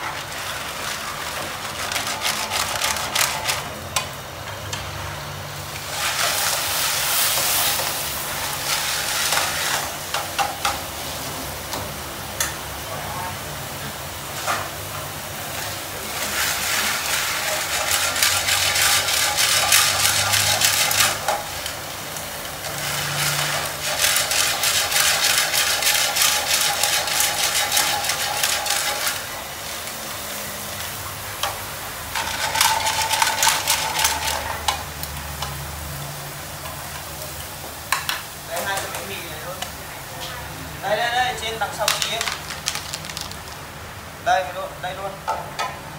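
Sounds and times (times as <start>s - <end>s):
utensils scraping in a pan: 0.0s - 5.0s, 5.6s - 11.3s, 14.4s - 37.2s, 37.9s - 40.5s, 41.3s - 43.6s
loud sizzling in a pan: 0.0s - 45.9s.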